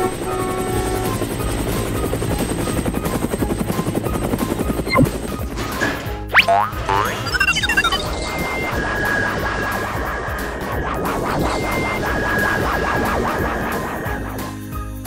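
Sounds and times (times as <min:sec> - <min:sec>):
cartoon helicopter rotor chopping: 0:00.0 - 0:05.4, 0:06.3 - 0:14.5.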